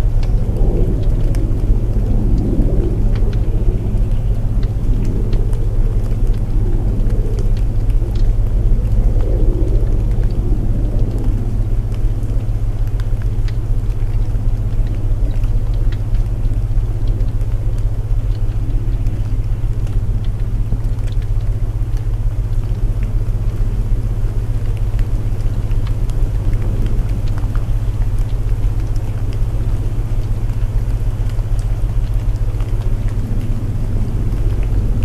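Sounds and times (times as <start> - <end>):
fire crackling in fireplace: 0.0 - 35.0
low binaural drone: 0.0 - 35.0
rain hiss: 0.0 - 35.0.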